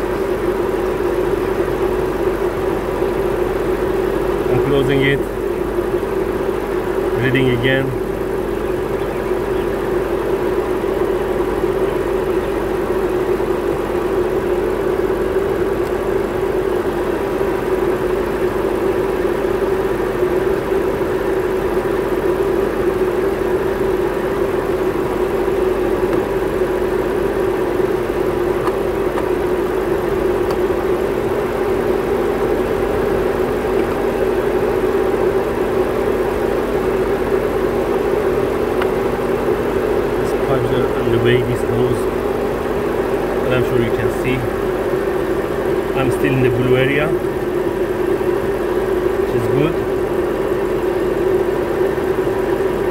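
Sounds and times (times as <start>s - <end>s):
air conditioning running: 0.0s - 52.9s
car engine idling: 0.0s - 52.9s.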